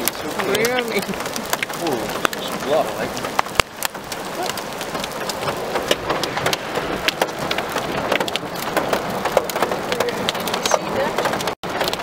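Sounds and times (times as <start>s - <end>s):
heavy rain rushing: 0.0s - 12.0s
raindrops ticking on car: 0.0s - 12.0s.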